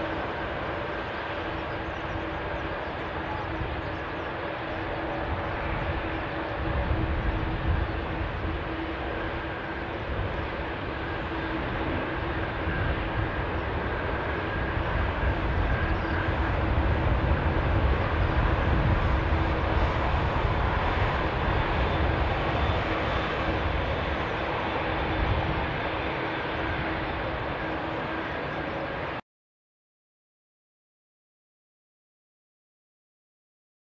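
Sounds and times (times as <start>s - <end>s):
jet engine roar: 0.0s - 29.2s.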